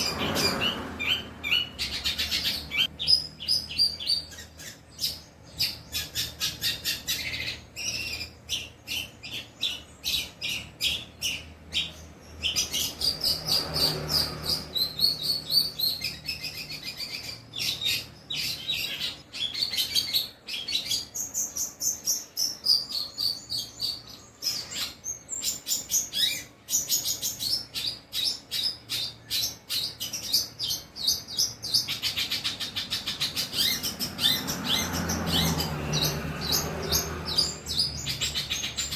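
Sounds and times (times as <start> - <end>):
bird singing chattering song: 0.0 - 38.9.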